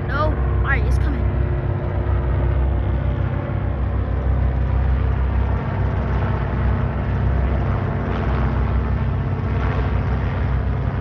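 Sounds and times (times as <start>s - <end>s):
aircraft engine approaching: 0.0s - 11.0s.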